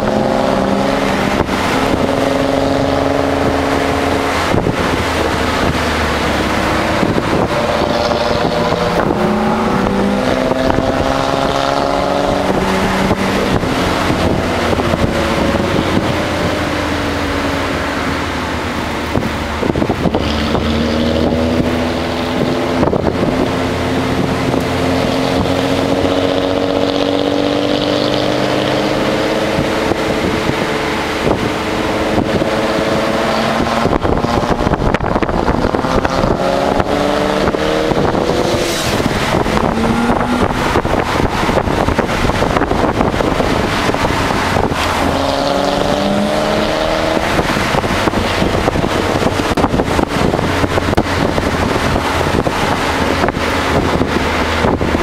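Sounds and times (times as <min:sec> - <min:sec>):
car engine revving while driving: 0:00.0 - 0:55.0
road and wind noise: 0:00.0 - 0:55.0.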